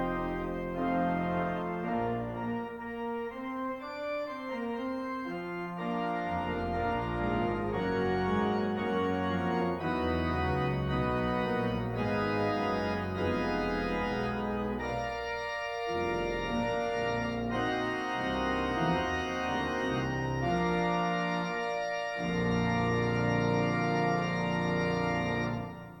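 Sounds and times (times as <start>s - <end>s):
organ playing chords: 0.0s - 26.0s.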